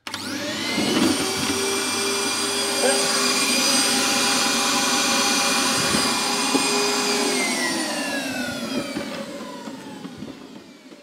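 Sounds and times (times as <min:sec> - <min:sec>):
dust extractor motor whining: 0:00.0 - 0:11.0.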